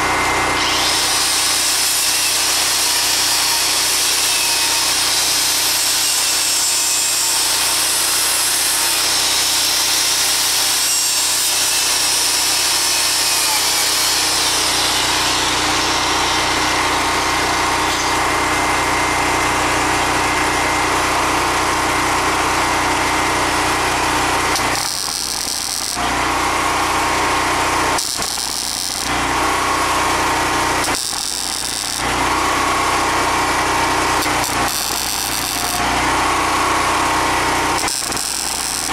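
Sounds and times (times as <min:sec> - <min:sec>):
angle grinder wire wheel on metal: 0:00.0 - 0:18.4, 0:22.7 - 0:38.9.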